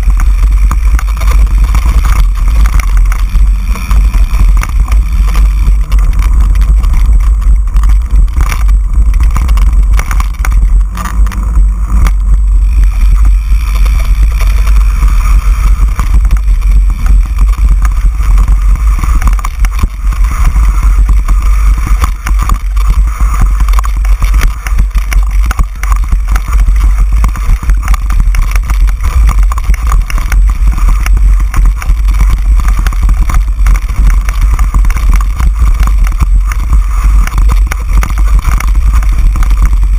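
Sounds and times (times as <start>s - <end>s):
bike rattling over stony trail: 0.0s - 39.9s.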